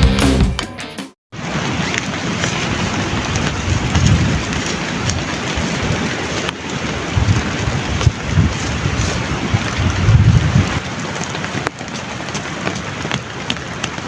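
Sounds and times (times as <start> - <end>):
heavy rain pouring: 1.4 - 14.0.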